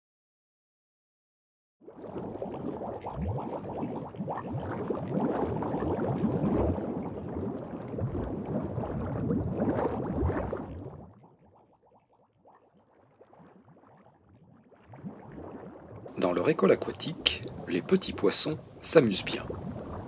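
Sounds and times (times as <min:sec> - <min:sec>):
underwater bubbling: 0:01.8 - 0:20.0.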